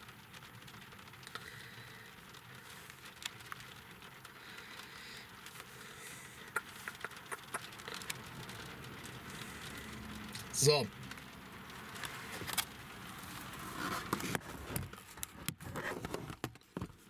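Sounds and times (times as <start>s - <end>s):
rain pattering on car roof: 0.0s - 17.0s.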